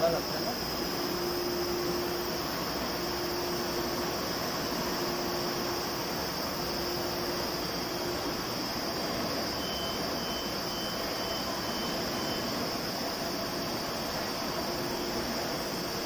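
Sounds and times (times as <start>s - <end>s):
printing press humming: 0.0s - 16.0s.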